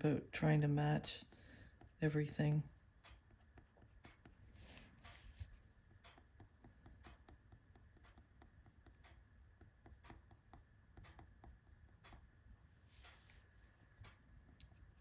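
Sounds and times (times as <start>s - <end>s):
pencil scratching on paper: 1.7s - 13.5s, 14.5s - 15.0s.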